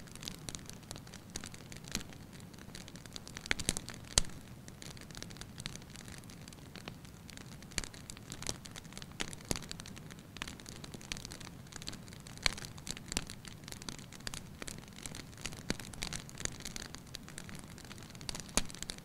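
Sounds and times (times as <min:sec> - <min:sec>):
fire crackles and pops: 0:00.0 - 0:19.0.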